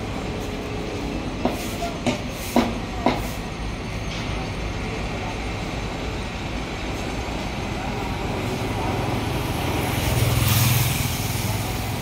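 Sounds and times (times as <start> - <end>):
city street rumble: 0.0 - 12.0.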